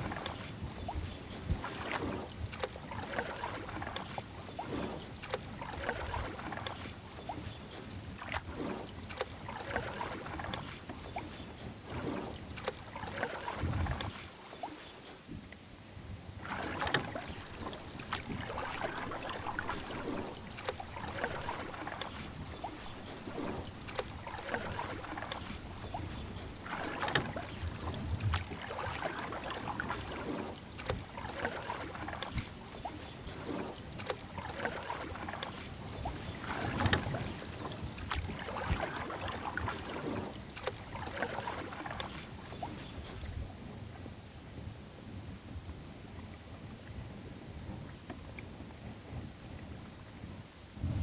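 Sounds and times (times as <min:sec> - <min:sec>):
paddle strokes splashing: 0:00.0 - 0:44.0.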